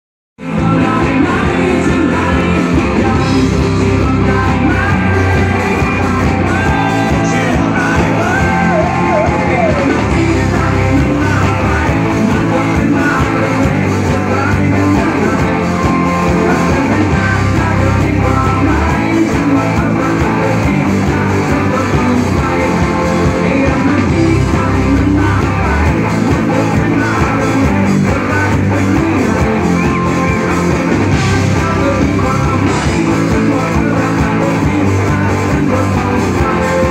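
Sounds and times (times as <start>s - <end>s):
drums: 0.4s - 36.9s
electric guitars: 0.4s - 36.9s
person singing: 0.4s - 36.9s.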